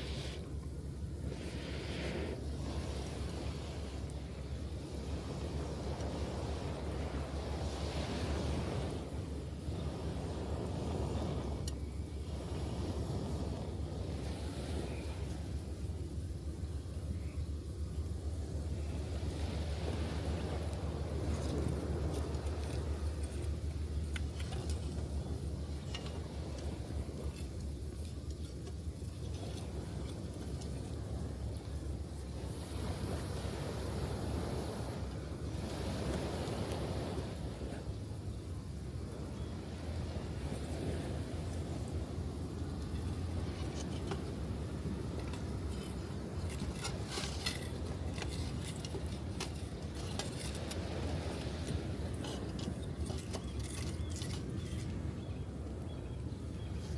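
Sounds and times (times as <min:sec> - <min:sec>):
surf rumble: 0:00.0 - 0:56.9
wind on microphone: 0:00.0 - 0:56.9.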